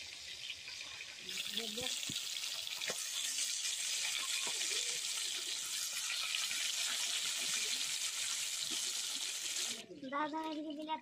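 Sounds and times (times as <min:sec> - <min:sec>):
fish deep-frying in sizzling oil: 0:00.0 - 0:09.9.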